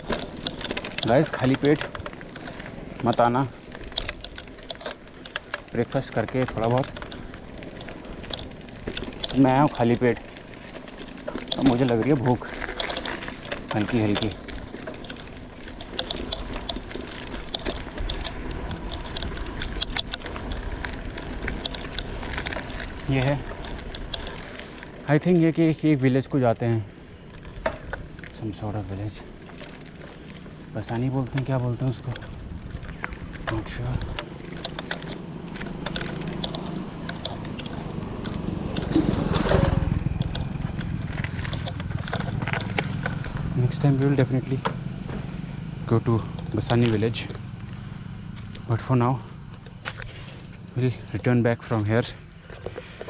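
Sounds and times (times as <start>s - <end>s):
bike clicks and rattles: 0.0s - 53.0s.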